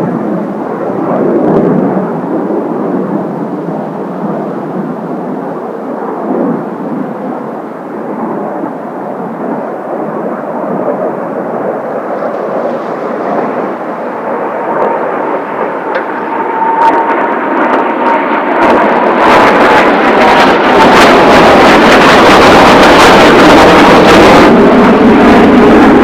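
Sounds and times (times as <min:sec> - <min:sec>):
high turbine whine: 0:00.0 - 0:26.0
loud rushing jet noise: 0:00.0 - 0:26.0
wind buffeting microphone: 0:00.0 - 0:26.0.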